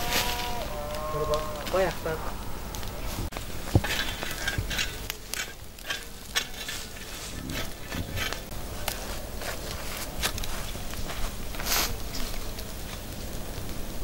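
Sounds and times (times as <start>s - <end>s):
metal skewers clicking and scraping: 0.0s - 13.1s.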